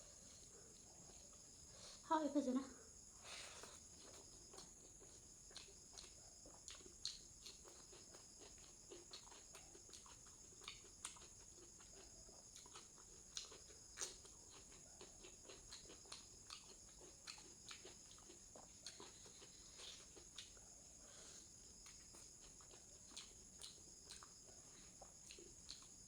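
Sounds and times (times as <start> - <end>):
chewing and eating with hands: 0.0 - 2.0, 3.2 - 26.0
insects chirring: 0.0 - 26.0.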